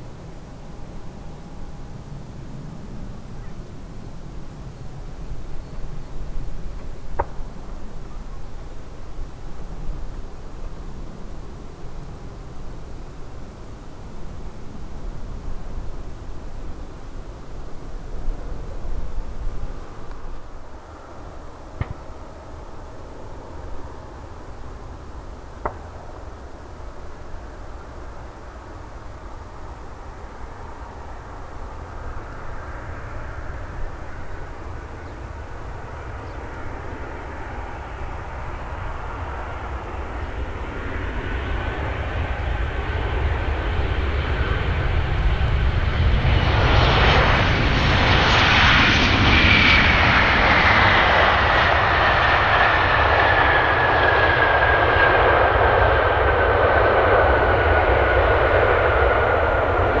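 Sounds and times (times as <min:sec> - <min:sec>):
high engine whine: 0:00.0 - 1:00.0
jet engines roaring: 0:00.0 - 1:00.0.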